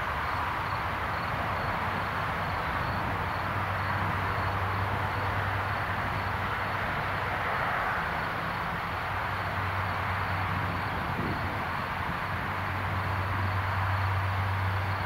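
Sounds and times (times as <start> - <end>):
jet engines at takeoff thrust: 0.0 - 15.0.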